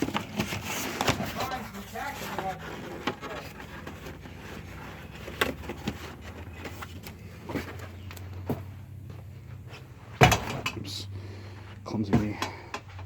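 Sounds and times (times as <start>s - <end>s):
steady low hum: 1.9s - 13.0s.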